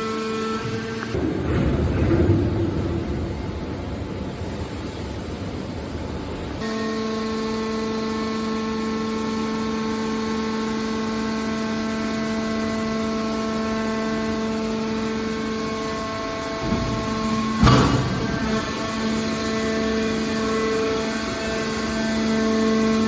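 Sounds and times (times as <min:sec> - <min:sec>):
hydraulic power unit whining hum: 0:00.0 - 0:23.0.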